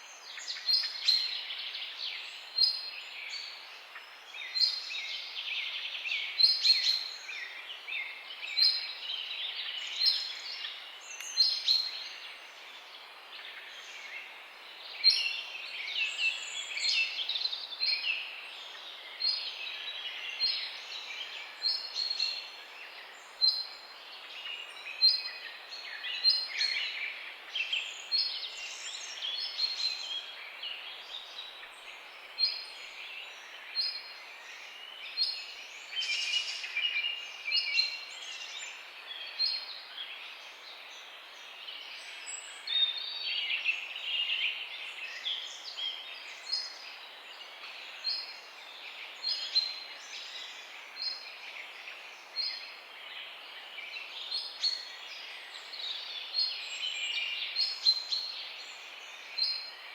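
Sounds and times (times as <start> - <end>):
faint background hiss: 0.0 - 59.9
songbirds chirping and singing: 0.0 - 59.9.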